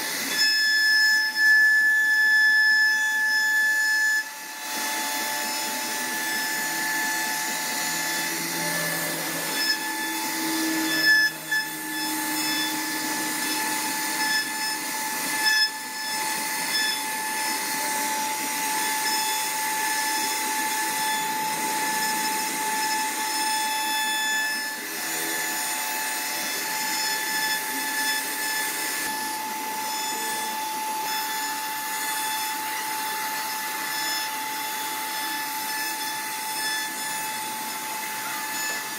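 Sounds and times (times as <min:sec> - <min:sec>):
bit cutting wood: 0:00.0 - 0:38.9
router spindle high whine: 0:00.0 - 0:38.9.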